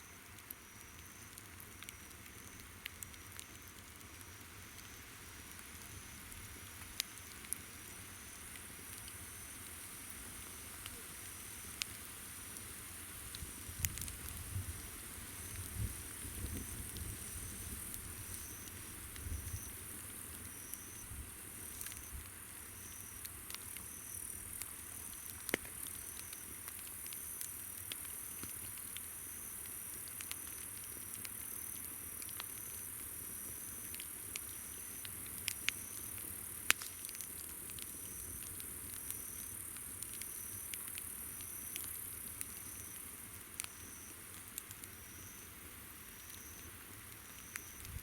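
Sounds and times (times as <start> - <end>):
campfire crackling and popping: 0.1 - 48.0.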